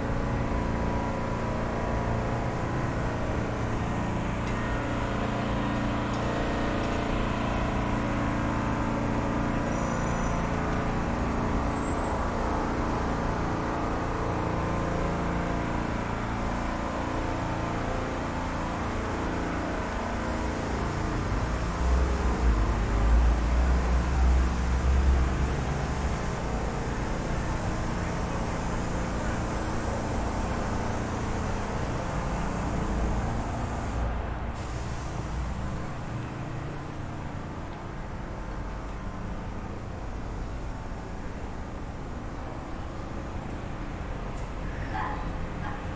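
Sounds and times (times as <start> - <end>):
cars passing: 0.0 - 45.9.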